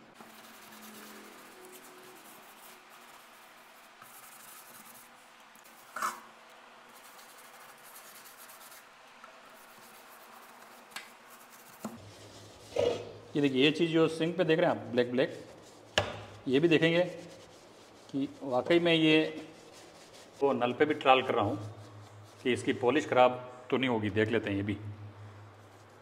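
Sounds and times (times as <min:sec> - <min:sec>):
paintbrush scrubbing tile: 0:00.1 - 0:06.2, 0:06.9 - 0:08.9, 0:09.5 - 0:13.9, 0:14.9 - 0:23.1, 0:25.5 - 0:26.0.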